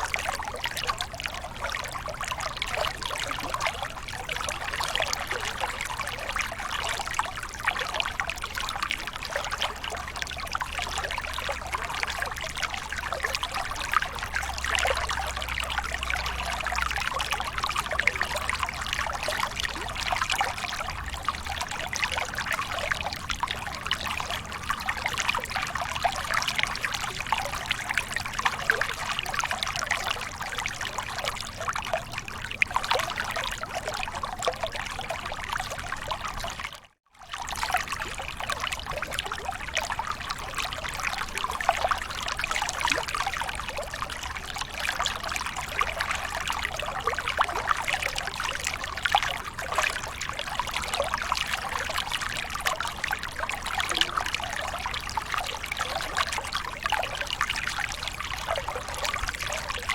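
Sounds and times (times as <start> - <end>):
water splashing and pouring: 0.0 - 59.9.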